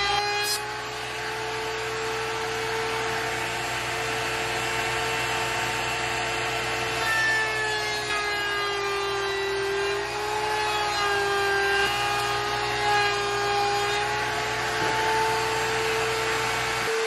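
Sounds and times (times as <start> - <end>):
hiss of router cutting wood: 0.0 - 17.0
router high whine: 0.0 - 17.0.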